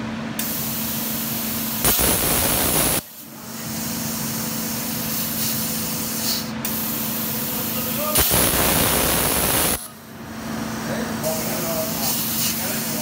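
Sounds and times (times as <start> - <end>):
machine hum with gas hiss: 0.0 - 13.0.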